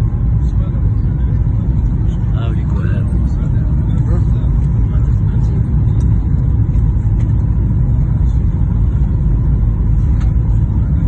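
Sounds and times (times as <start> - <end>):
airliner cabin rumble: 0.0 - 11.0
faint steady whine: 0.0 - 11.0.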